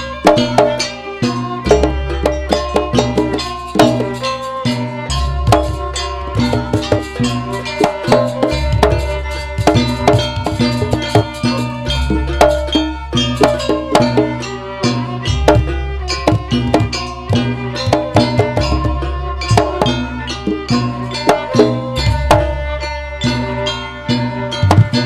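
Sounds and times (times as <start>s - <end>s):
hand drum patterns: 0.0s - 25.0s
struck metal percussion: 0.0s - 25.0s.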